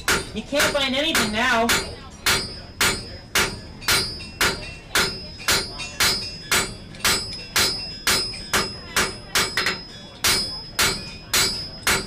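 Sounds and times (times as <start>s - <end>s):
hammer striking iron on anvil: 0.0s - 12.0s
high anvil ring: 1.2s - 12.0s.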